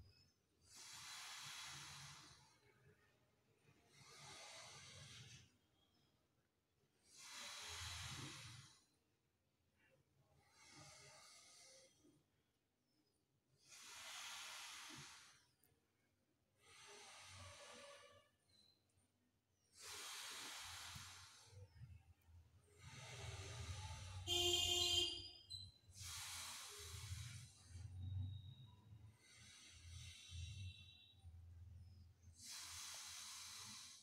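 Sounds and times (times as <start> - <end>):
slow nostril breathing: 0.1 - 2.9, 3.7 - 9.6, 10.3 - 34.0.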